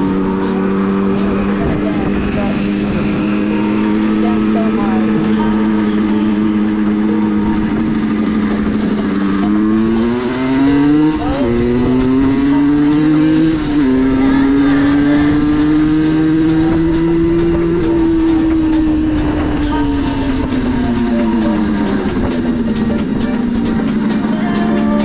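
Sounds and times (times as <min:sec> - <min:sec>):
moped engine revving: 0:00.0 - 0:25.0.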